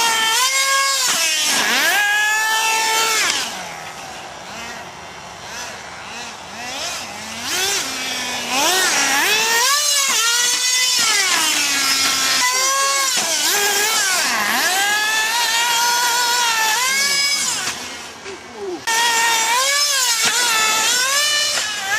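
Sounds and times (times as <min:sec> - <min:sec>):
rc car engines whining: 0:00.0 - 0:21.9.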